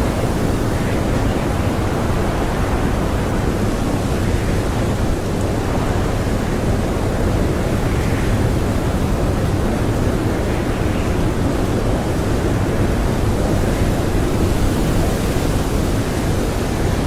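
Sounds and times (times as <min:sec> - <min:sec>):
strong blizzard wind: 0:00.0 - 0:17.0.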